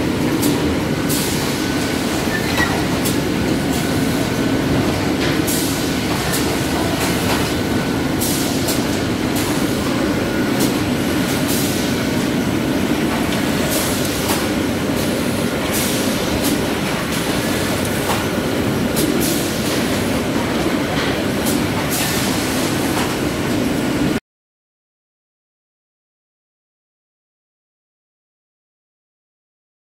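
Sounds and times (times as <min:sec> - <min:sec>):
packaging machine humming: 0:00.0 - 0:24.1.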